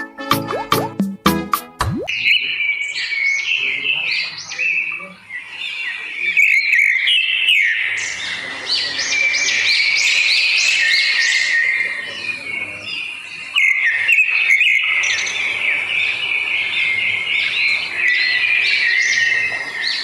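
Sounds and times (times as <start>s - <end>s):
birds chirping: 2.0s - 20.0s.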